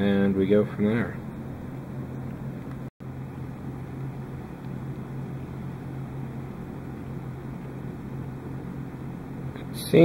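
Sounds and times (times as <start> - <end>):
faint room noise hiss: 0.0 - 10.0
steady low hum: 0.0 - 10.0.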